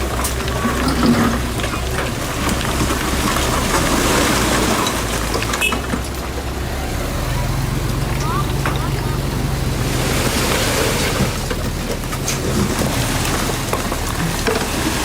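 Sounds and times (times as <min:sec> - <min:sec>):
heavy machine engine rumble: 0:00.0 - 0:15.0.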